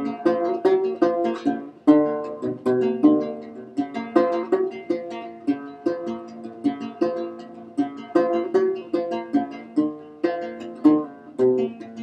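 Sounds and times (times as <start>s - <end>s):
banjo plucked notes: 0.0s - 12.0s.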